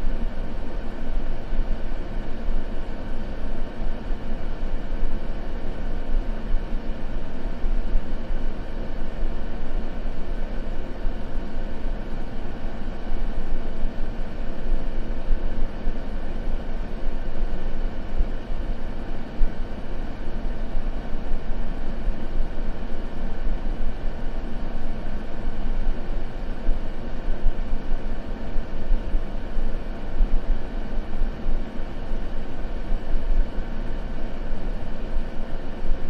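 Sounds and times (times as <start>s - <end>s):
low rumbling white noise: 0.0s - 36.0s.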